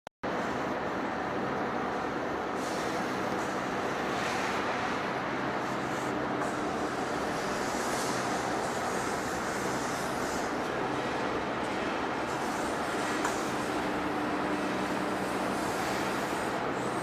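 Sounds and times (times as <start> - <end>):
heavy industrial machinery running: 0.3 - 17.0.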